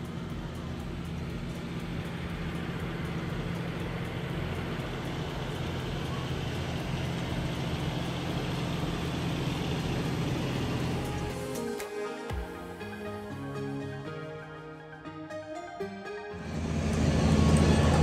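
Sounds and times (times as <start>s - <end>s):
tractor engine running: 0.0s - 14.2s, 16.4s - 18.0s.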